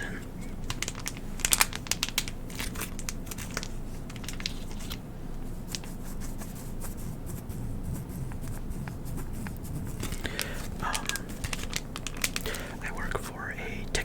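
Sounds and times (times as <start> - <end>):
wipe wrapper crinkling: 0.0 - 14.0.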